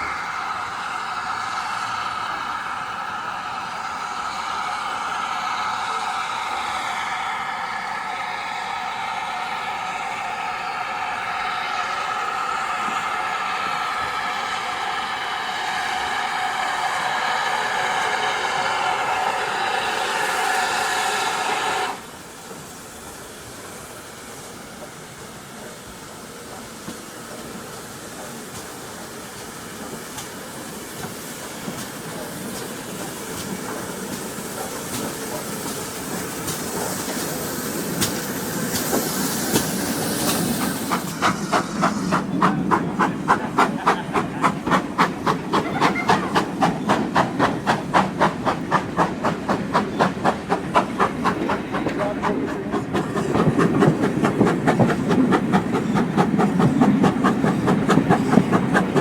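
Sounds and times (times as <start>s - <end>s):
hiss of steam: 0.0s - 59.0s
steam locomotive exhaust beat: 0.0s - 59.0s.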